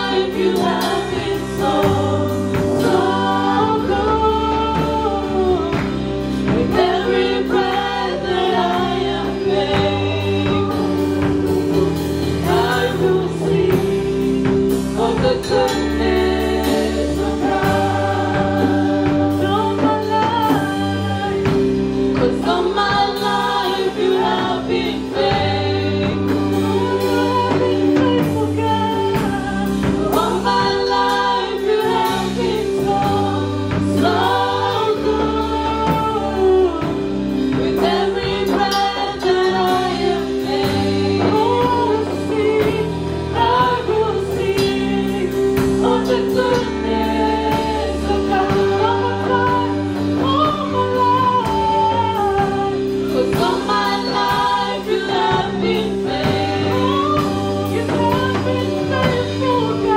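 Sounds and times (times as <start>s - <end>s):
bass line: 0.0s - 59.9s
electric keyboard chords: 0.0s - 59.9s
group singing gospel song: 0.0s - 59.9s.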